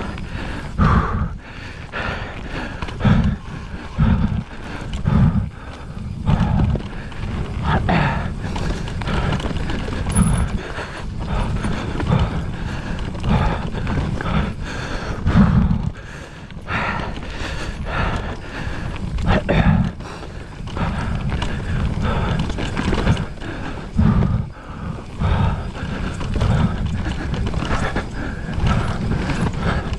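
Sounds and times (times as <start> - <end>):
bike rattling over bumps: 0.0 - 29.9
tyres on dirt and rocks: 0.0 - 29.9
wind rumble on microphone: 0.0 - 29.9.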